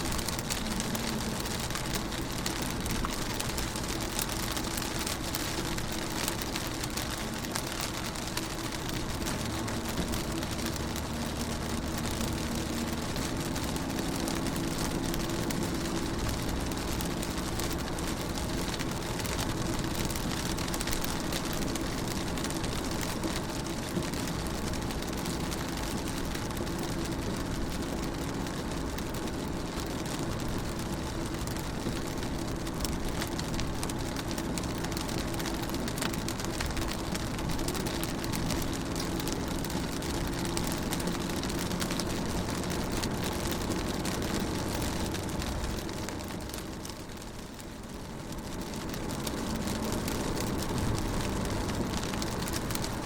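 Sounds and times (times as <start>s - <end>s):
rain on a car window: 0.0s - 53.0s.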